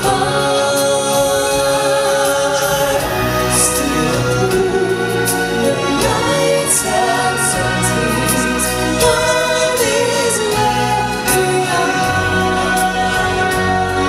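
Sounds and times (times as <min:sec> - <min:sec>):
instrumental backing with bass: 0:00.0 - 0:14.0
voices singing together: 0:00.0 - 0:14.0.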